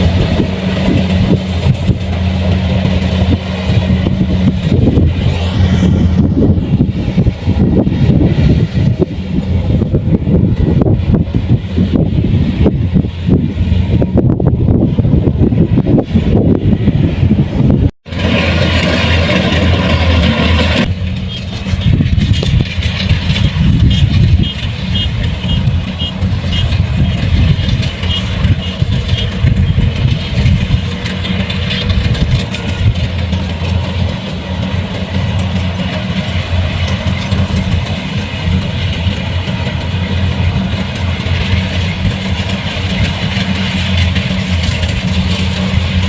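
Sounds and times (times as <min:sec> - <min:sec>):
diesel engine running under load: 0:00.0 - 0:46.0.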